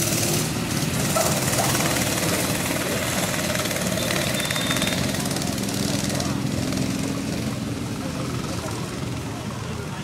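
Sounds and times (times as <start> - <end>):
go-kart engines buzzing: 0.0 - 10.0.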